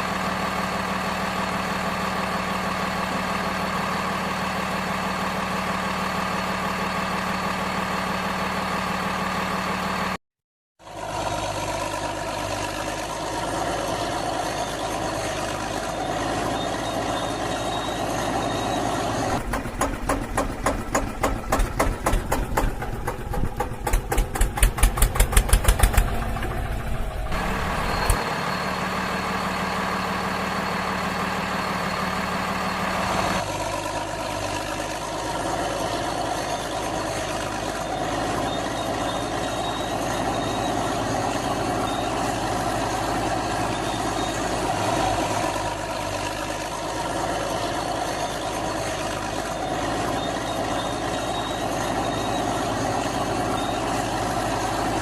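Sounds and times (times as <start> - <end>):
diesel engine chugging: 0.0 - 10.2, 10.8 - 55.0.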